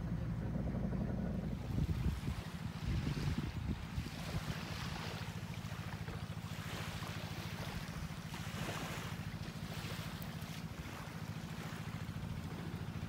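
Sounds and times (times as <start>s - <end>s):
boat engine puttering: 0.0s - 13.0s.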